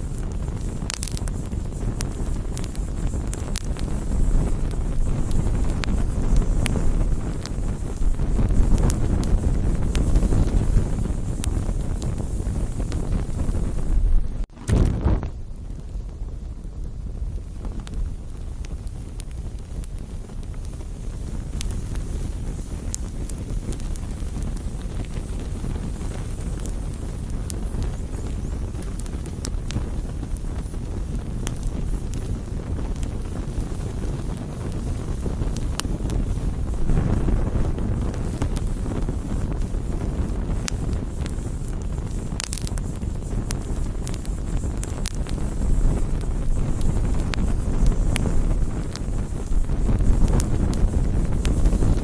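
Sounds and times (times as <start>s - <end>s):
campfire crackling and popping: 0.0s - 52.0s
wind buffeting microphone: 0.0s - 52.0s.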